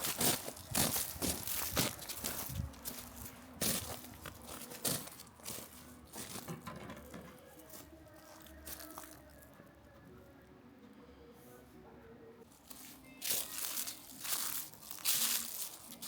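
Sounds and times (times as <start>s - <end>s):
crunching and rustling: 0.0s - 9.4s, 12.5s - 16.0s.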